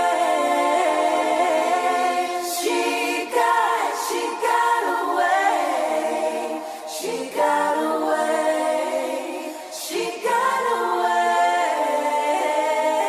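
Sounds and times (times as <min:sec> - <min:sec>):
female choir-like vocal harmonies: 0:00.0 - 0:13.0.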